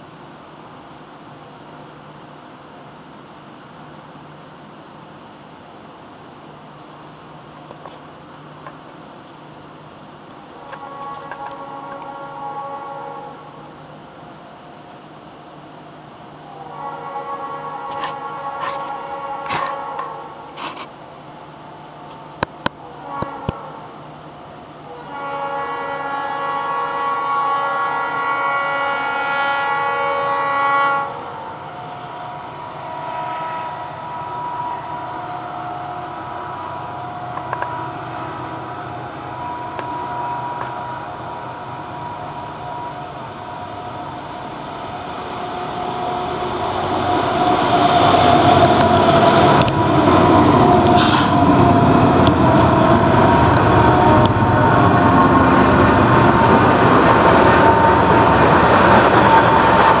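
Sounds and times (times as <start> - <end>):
freight train wheels on rails: 0.0 - 60.0.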